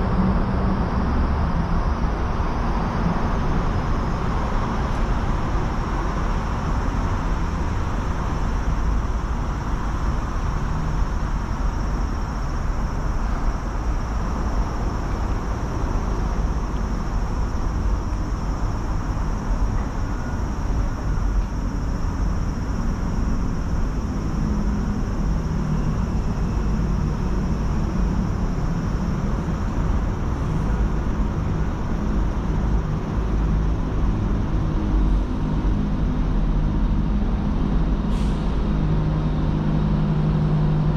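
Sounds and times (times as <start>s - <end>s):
city traffic rumble: 0.0s - 40.9s
low engine hum: 0.0s - 40.9s.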